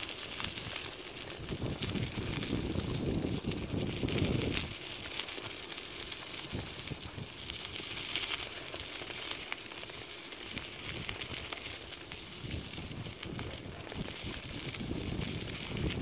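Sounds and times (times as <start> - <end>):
dog paws on gravel: 0.0 - 16.0
wheels rolling on gravel: 0.0 - 16.0.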